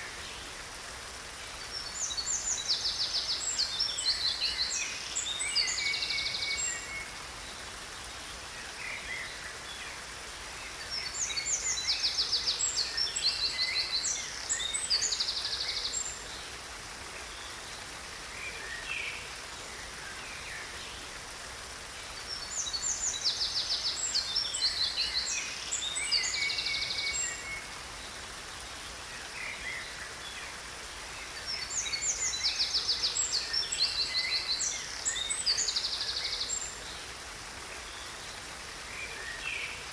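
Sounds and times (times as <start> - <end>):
falling water rushing: 0.0 - 39.9
songbird chirps and trills: 0.0 - 39.9.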